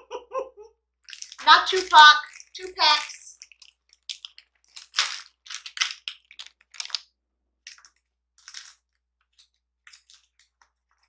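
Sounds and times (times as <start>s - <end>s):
plastic wrapper crinkling: 1.0s - 11.0s.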